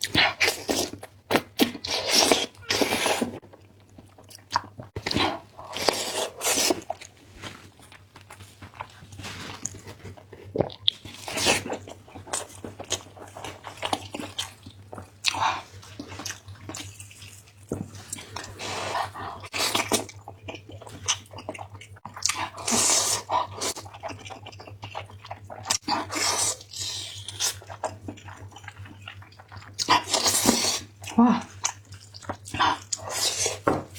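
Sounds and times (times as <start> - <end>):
person chewing and biting food: 0.0 - 33.9.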